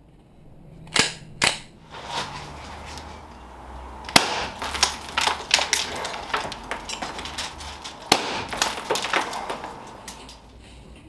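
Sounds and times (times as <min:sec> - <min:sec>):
sharp cracks and pops: 0:00.9 - 0:10.8.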